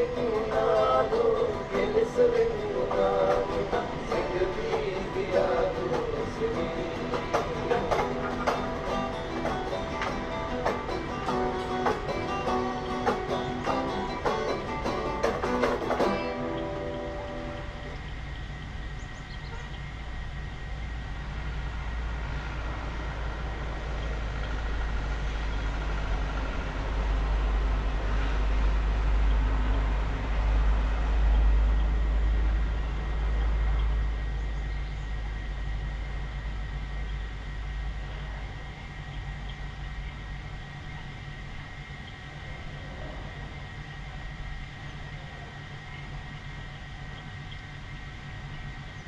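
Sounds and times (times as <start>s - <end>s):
vehicle passing: 0.0s - 49.0s.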